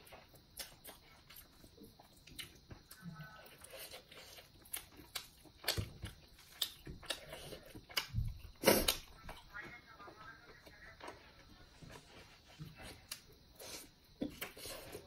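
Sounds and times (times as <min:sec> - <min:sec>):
person chewing food: 0:00.0 - 0:09.5, 0:11.0 - 0:15.0.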